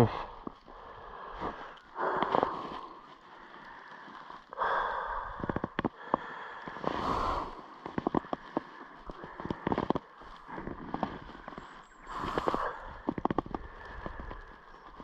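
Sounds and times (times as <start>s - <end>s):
man breathing and sniffing: 0.0s - 15.0s.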